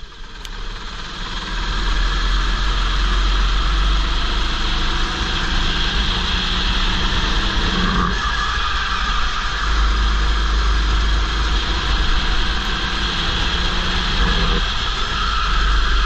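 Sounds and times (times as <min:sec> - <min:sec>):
go-kart engine running hard: 0:00.0 - 0:16.0.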